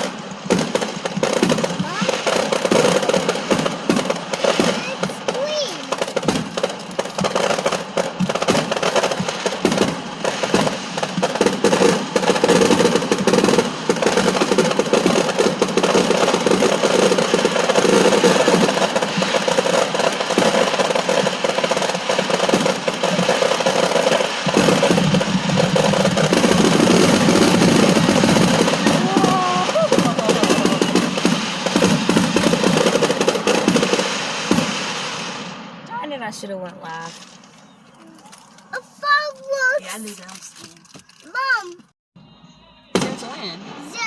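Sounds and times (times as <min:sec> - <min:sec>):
firecrackers crackling: 0:00.0 - 0:41.9, 0:42.9 - 0:44.0.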